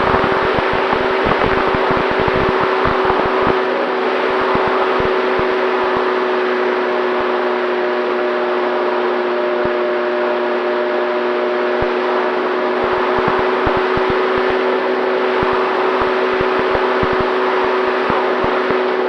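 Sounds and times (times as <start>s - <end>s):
electric motor and propeller hum: 0.0s - 19.0s.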